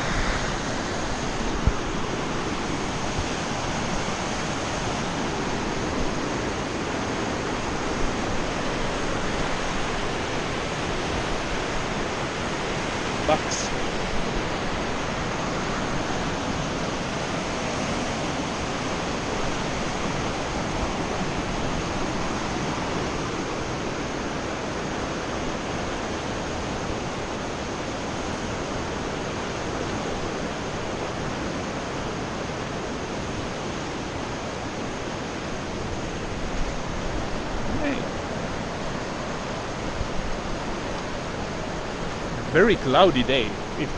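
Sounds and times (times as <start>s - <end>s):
river rapids rushing: 0.0s - 43.9s.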